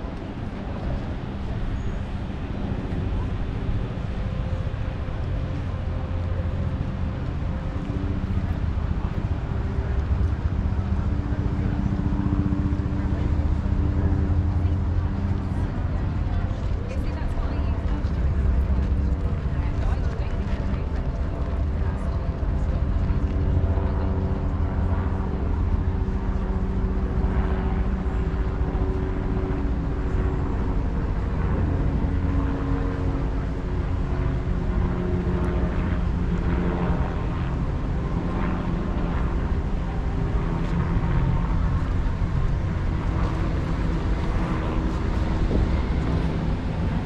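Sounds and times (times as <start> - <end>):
deep rumble: 0.0 - 47.0
engine drone: 0.0 - 47.0.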